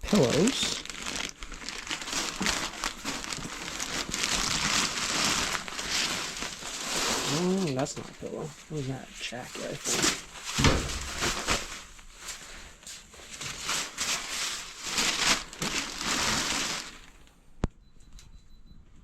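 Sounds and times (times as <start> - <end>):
rustling and crinkling of bags: 0.0 - 17.3.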